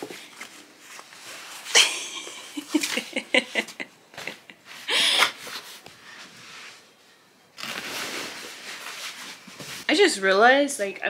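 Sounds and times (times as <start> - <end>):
clothes rustling: 0.0 - 10.6.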